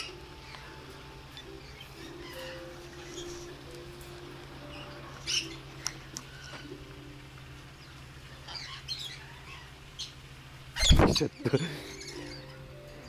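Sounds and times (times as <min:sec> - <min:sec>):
parrot chirping and squawking: 0:00.0 - 0:13.0.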